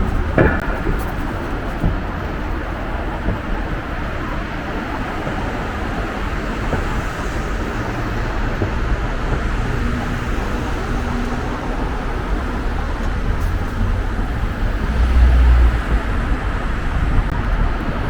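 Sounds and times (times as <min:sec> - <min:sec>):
low engine hum: 0:00.0 - 0:18.0
road traffic rumble: 0:00.0 - 0:18.0.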